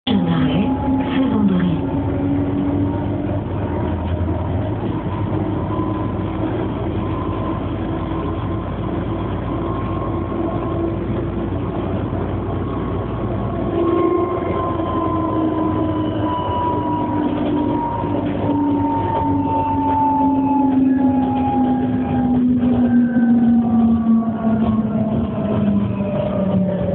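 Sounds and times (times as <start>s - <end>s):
tram running with motor whine: 0.0s - 26.9s.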